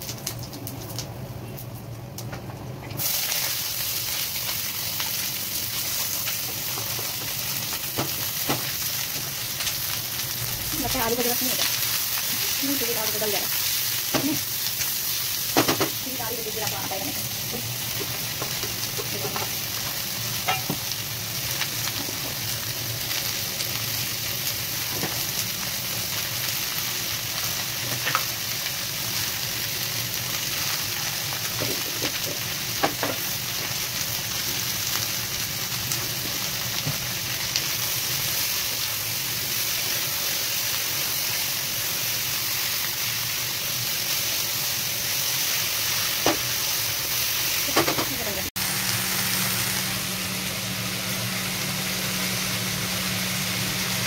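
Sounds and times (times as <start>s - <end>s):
vegetables sizzling in hot oil: 3.0s - 54.0s.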